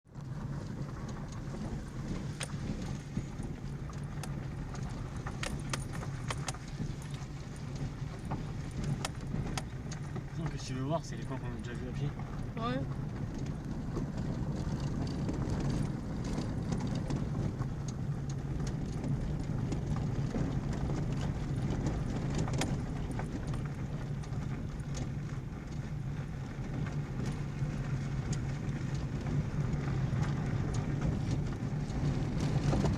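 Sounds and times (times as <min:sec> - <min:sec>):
vehicle engine hum: 0:00.0 - 0:32.9
gravel knocking under wheels: 0:00.1 - 0:32.9.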